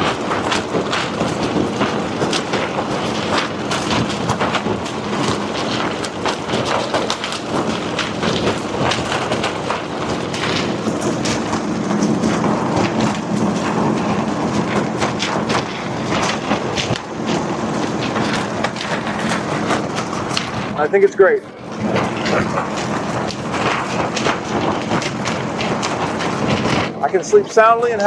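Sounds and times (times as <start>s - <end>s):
blower machine hum: 0.0s - 28.0s
tent fabric flapping: 0.0s - 28.0s.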